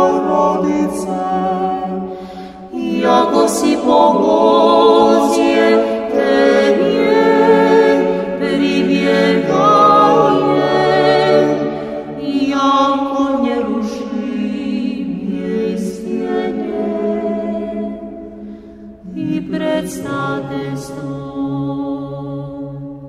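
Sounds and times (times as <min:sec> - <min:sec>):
choir singing a slow hymn: 0:00.0 - 0:23.0.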